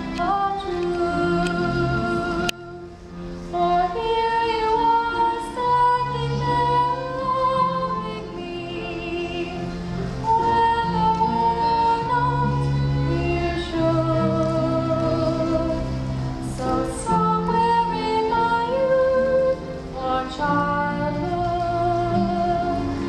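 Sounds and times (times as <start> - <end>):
girl singing with vibrato: 0.0 - 23.0
sustained instrumental accompaniment: 0.0 - 23.0.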